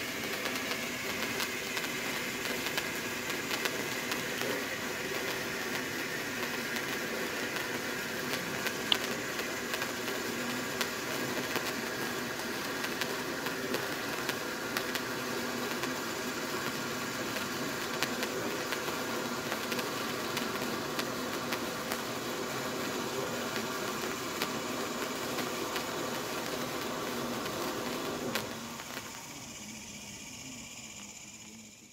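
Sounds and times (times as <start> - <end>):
sparkler flare hissing: 0.0 - 31.9.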